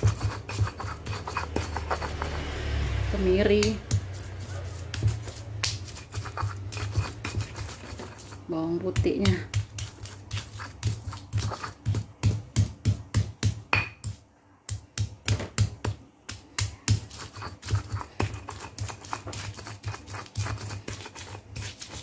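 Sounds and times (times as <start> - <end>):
stone pestle pounding in mortar: 0.0 - 2.4, 3.4 - 22.0.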